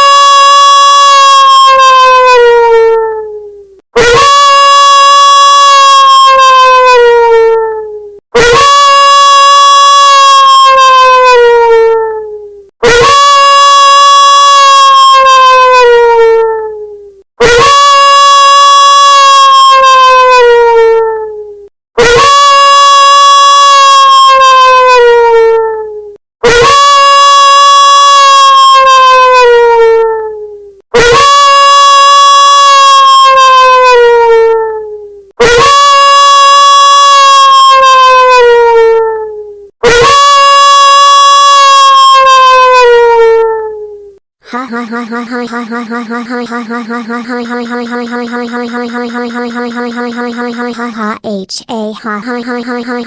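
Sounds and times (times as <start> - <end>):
wolf howling from phone speaker: 0.0 - 44.1.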